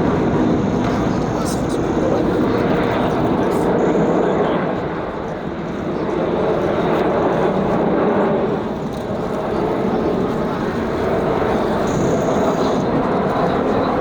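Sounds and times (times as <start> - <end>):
aircraft engine rushing: 0.0 - 14.0.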